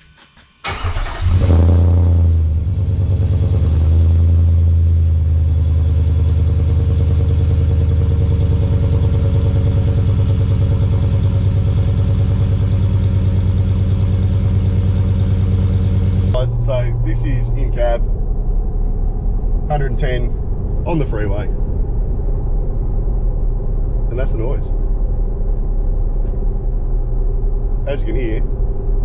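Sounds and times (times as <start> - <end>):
car engine starting and idling: 0.0 - 29.0.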